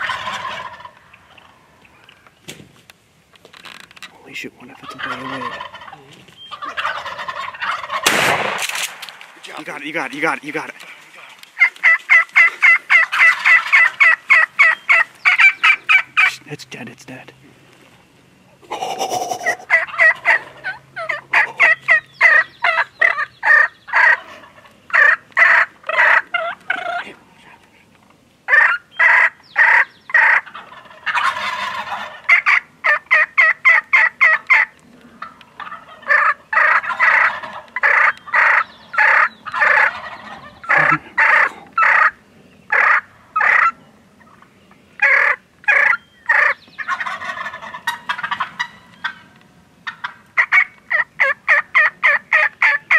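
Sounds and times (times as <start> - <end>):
turkeys gobbling: 0.0 - 2.4, 4.3 - 16.6, 18.5 - 52.9.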